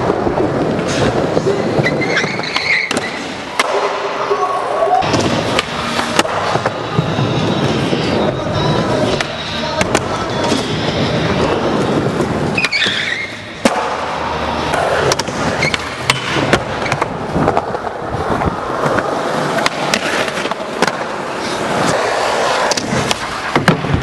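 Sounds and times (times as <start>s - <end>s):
skateboard wheels rolling: 0.0s - 24.0s.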